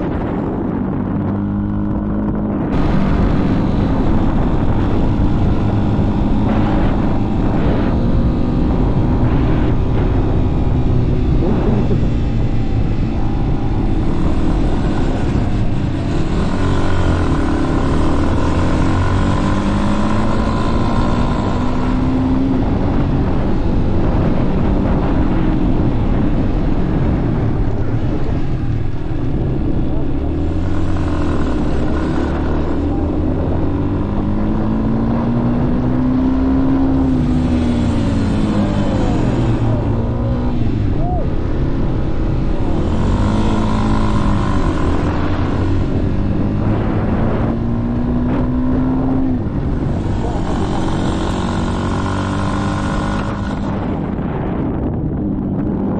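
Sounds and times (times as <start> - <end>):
dense low rumble: 0.0 - 55.9
motorcycle engine running: 0.0 - 55.9.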